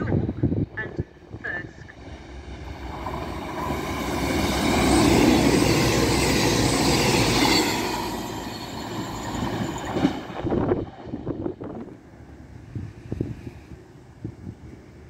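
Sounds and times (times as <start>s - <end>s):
diesel train passing at speed: 0.0s - 15.0s.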